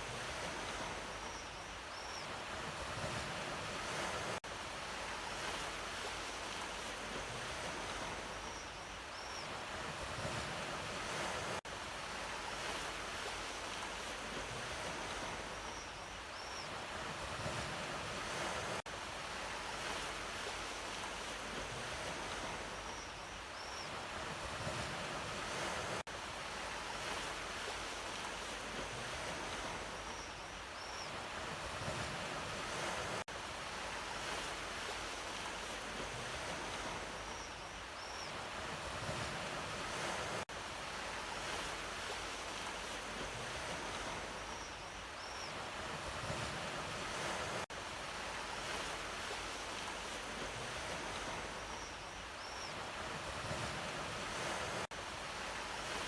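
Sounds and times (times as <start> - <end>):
sea waves washing ashore: 0.0 - 1.4, 2.3 - 56.0.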